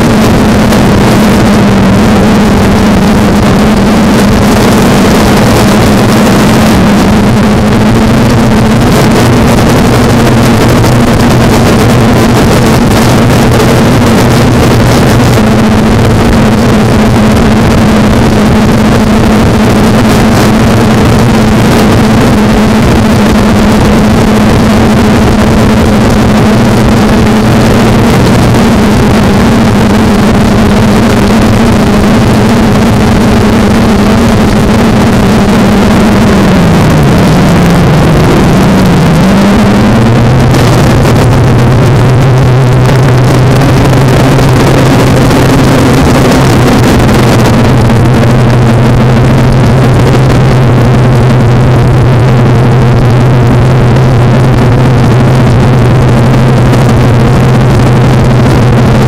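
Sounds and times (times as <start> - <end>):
drone motors buzzing hum: 0.0 - 59.0.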